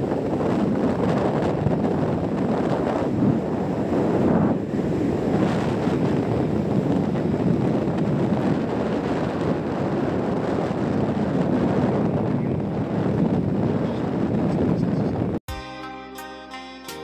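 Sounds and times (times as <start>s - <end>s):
vehicle road and engine noise: 0.0s - 15.4s
wind rush on microphone: 0.0s - 15.4s.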